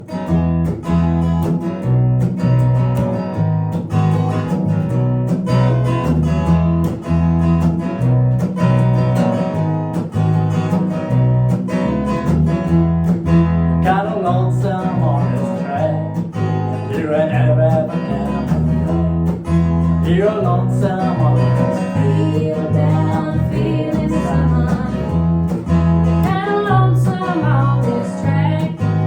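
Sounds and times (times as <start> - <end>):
acoustic guitar strumming: 0.0 - 29.0
low bass notes: 0.0 - 29.0.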